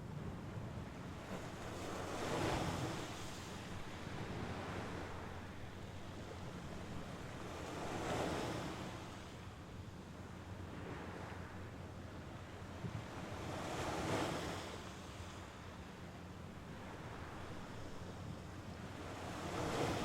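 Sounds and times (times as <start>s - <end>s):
waves breaking on shore: 0.8s - 11.6s, 12.5s - 20.0s.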